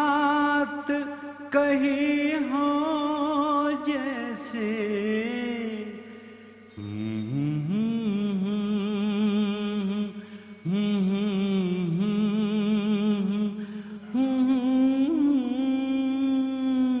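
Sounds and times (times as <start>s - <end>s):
man singing wordless notes: 0.0s - 17.0s.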